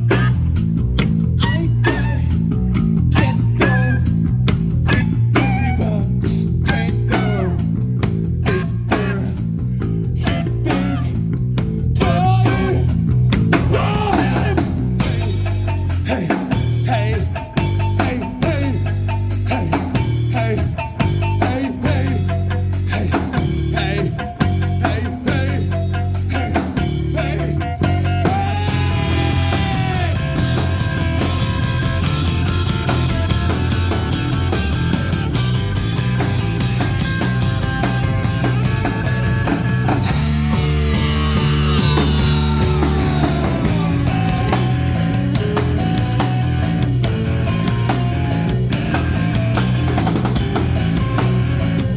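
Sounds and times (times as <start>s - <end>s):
bass guitar: 0.0s - 51.9s
drum kit: 0.0s - 51.9s
electric guitar with bent notes: 0.0s - 51.9s.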